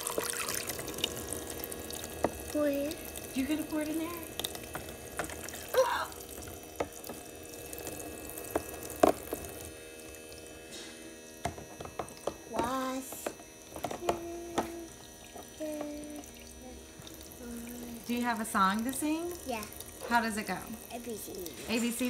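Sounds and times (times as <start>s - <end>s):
water stream into sink: 0.0s - 22.0s.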